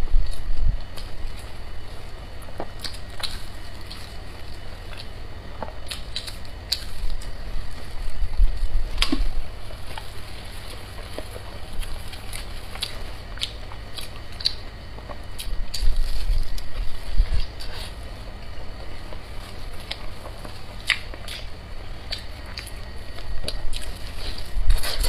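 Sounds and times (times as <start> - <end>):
chewing crisp food: 0.2 - 25.0.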